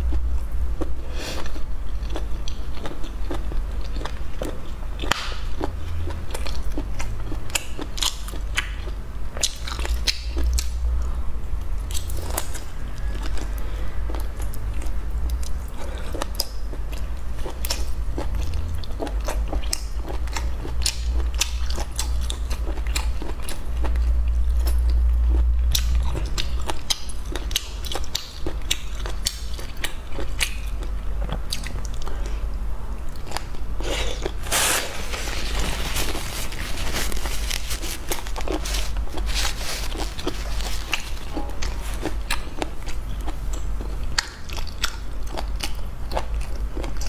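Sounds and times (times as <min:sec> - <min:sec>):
chewing with wet crunches: 0:00.0 - 0:11.1, 0:11.7 - 0:34.5, 0:35.3 - 0:47.0
steady low hum: 0:00.0 - 0:47.0.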